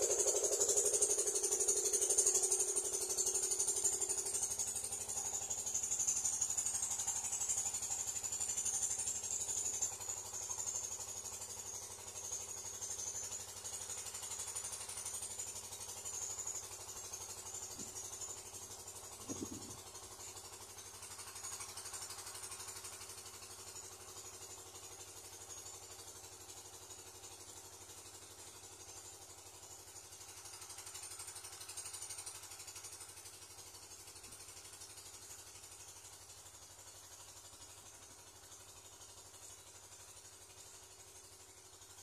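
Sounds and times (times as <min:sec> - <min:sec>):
faint engine hum: 0:00.0 - 0:42.0.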